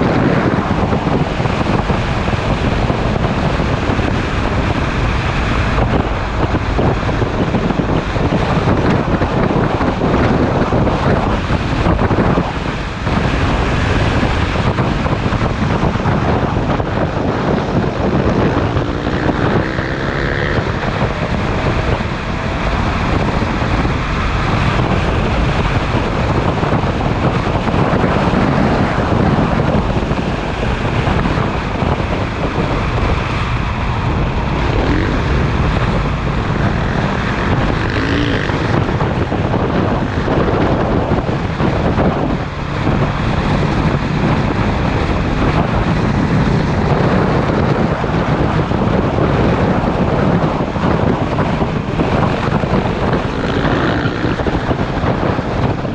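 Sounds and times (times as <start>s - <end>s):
motorcycle engine running: 0.0s - 55.9s
wind rush on microphone: 0.0s - 55.9s.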